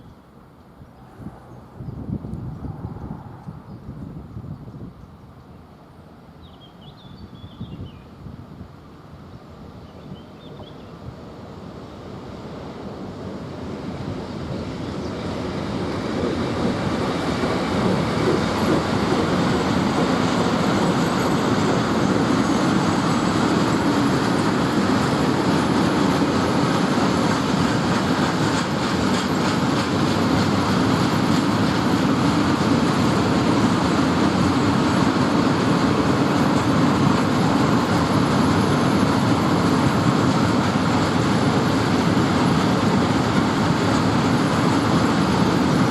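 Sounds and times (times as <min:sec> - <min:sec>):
train passing: 0:00.0 - 0:45.9.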